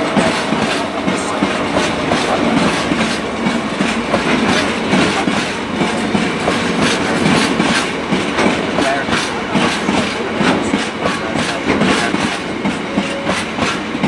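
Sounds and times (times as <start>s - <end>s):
freight train rumbling past: 0.0s - 14.0s
wheels clacking over rail joints: 0.0s - 14.0s.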